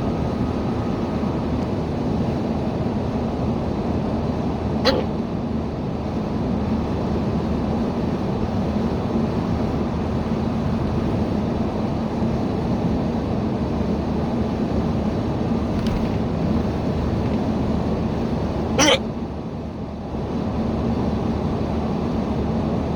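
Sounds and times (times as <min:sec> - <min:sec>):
car cabin road and engine noise: 0:00.0 - 0:22.9.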